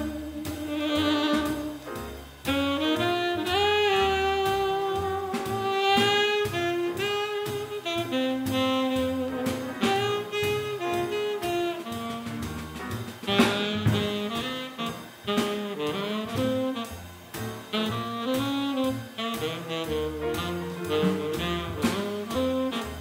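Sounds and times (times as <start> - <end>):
saxophone melody: 0.0 - 1.9, 2.5 - 23.0
double bass: 0.0 - 23.0
drum kit cymbals: 0.0 - 23.0
piano: 0.0 - 23.0.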